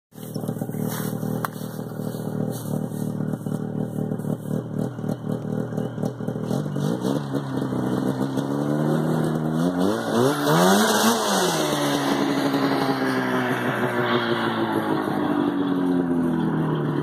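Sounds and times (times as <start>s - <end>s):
two-stroke engine revving: 0.2s - 17.0s.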